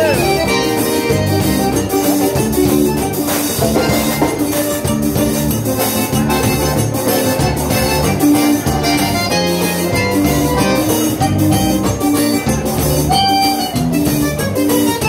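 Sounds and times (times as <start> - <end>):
drum kit: 0.0 - 15.0
electric bass: 0.0 - 15.0
piano accordion melody: 0.0 - 15.0.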